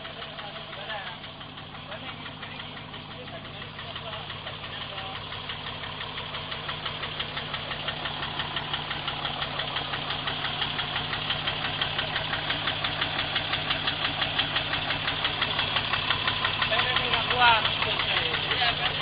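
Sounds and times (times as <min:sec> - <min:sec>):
truck engine idling with knocking: 0:00.0 - 0:19.0.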